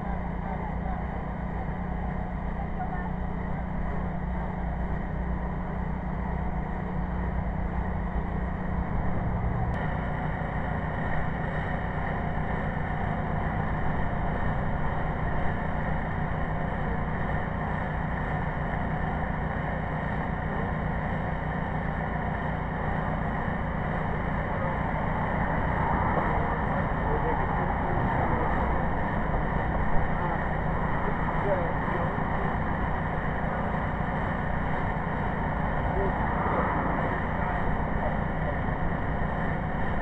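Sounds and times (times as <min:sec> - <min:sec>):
engine droning steadily: 0:00.0 - 0:40.0.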